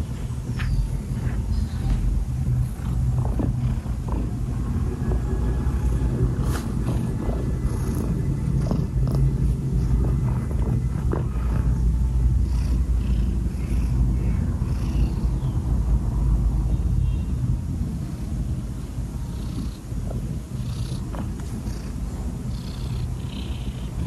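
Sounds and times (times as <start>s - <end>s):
cat purring: 1.1s - 15.6s, 19.1s - 24.0s.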